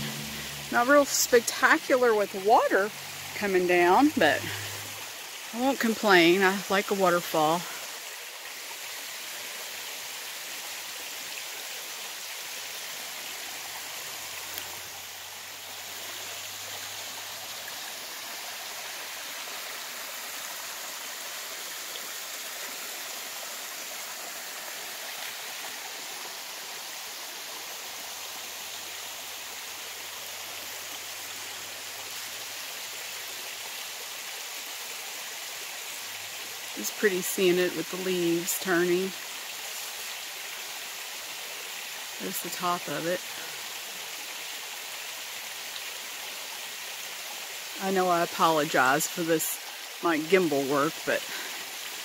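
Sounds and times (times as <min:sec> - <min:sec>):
waterfall rushing and splashing: 0:00.0 - 0:52.0.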